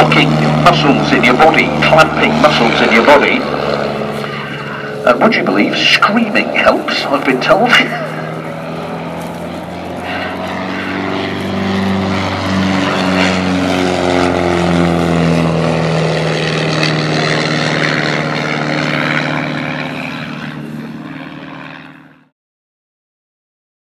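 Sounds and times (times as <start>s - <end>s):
biplane engine and propeller: 0.0s - 22.3s.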